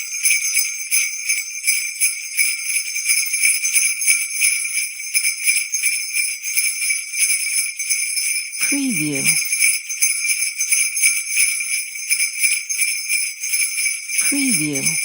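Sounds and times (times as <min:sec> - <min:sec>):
jingle bells shaken: 0:00.0 - 0:15.0.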